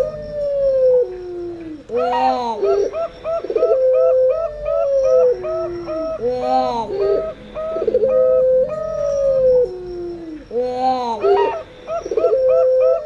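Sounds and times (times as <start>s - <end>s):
long falling dove coo: 0.0s - 13.0s
rapid hooked dove coos: 0.0s - 13.0s.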